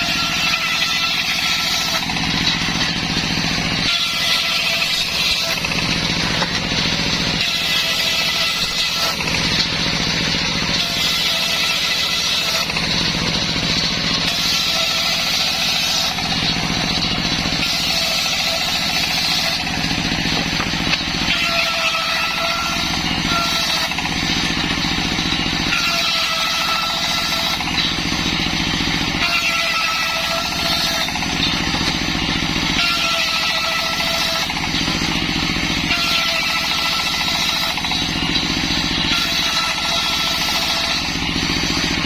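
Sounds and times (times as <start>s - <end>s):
circular saw cutting wood: 0.0s - 42.0s.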